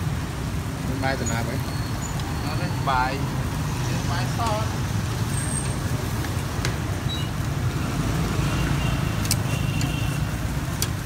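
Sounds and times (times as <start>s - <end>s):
motor traffic rumble: 0.0s - 11.0s.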